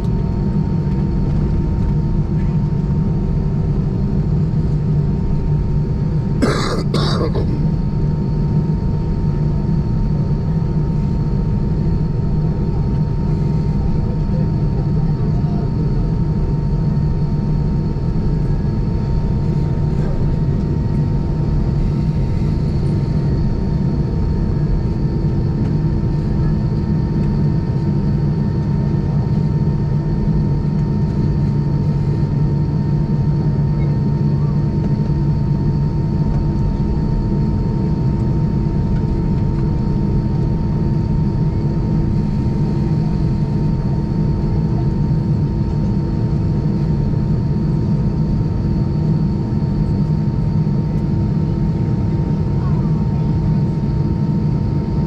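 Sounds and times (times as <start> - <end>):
airplane cabin engine hum: 0.0 - 55.0.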